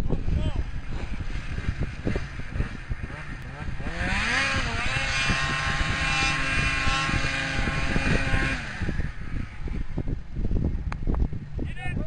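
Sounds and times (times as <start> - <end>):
snowmobile engine revving: 0.1 - 10.2.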